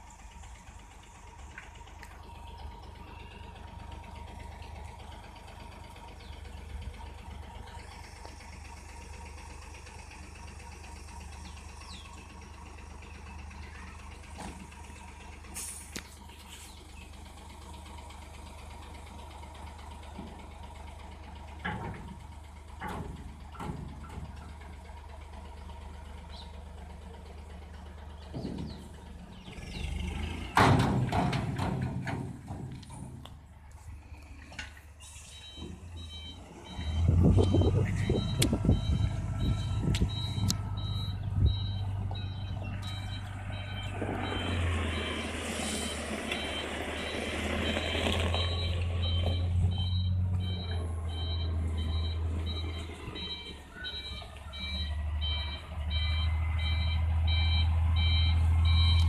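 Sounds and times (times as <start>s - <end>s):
dump truck diesel engine: 0.0s - 59.0s.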